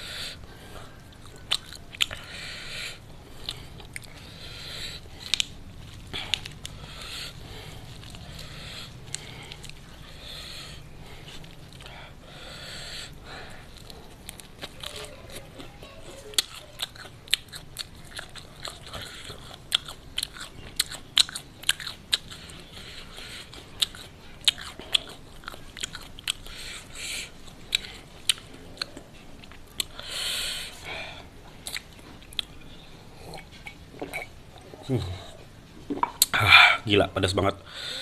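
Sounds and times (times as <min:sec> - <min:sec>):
crunchy chewing of fried chicken: 0:00.0 - 0:36.3.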